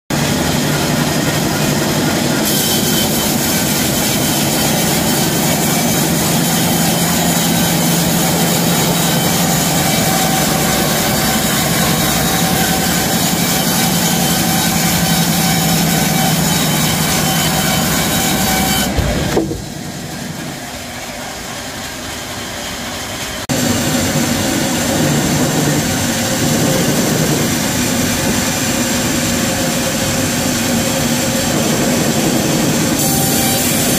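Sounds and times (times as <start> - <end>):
band saw cutting log: 0.1 - 20.9, 23.5 - 33.9.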